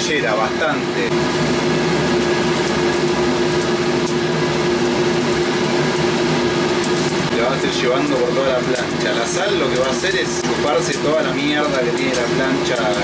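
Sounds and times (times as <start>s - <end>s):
steady low hum: 0.0s - 13.0s
salt grains ticking on griddle: 1.7s - 13.0s.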